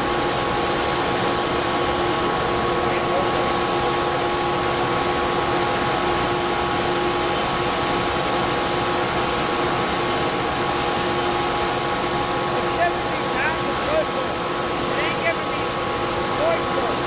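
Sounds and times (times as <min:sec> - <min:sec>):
fan droning with whine: 0:00.0 - 0:17.0.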